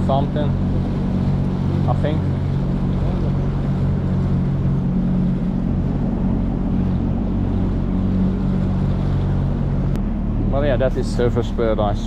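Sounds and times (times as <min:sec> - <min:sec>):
outboard motor humming: 0:00.0 - 0:12.0
water against hull: 0:00.0 - 0:12.0.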